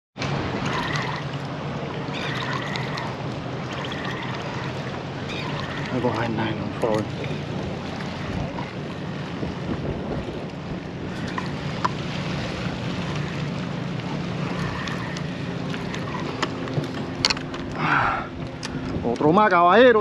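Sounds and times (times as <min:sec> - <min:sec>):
sea wash: 0:00.2 - 0:20.0
wind buffeting microphone: 0:00.2 - 0:20.0.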